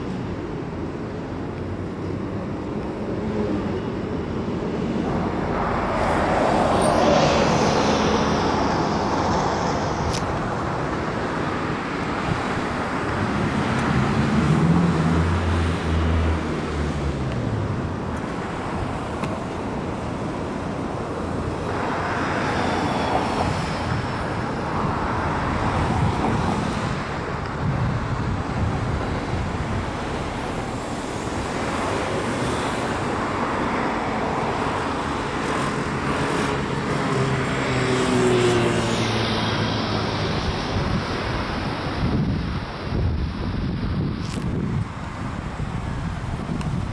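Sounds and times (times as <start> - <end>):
heavy vehicle engine drone: 0.0 - 46.9
passing cars rushing: 0.0 - 46.9.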